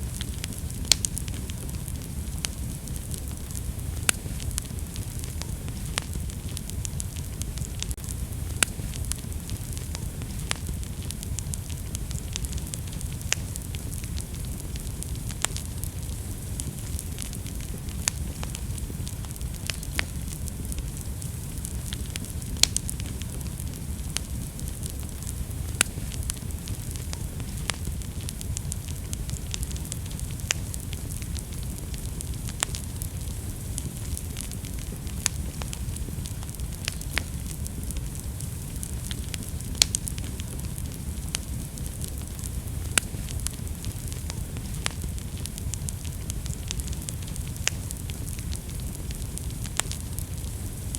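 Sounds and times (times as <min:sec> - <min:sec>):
fire crackling and popping: 0:00.0 - 0:50.9
low rumble of flames: 0:00.0 - 0:50.9.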